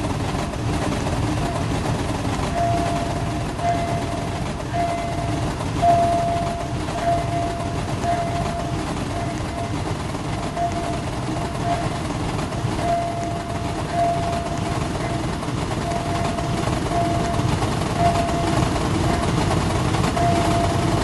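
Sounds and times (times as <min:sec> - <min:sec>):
passenger train rolling past: 0:00.0 - 0:21.0.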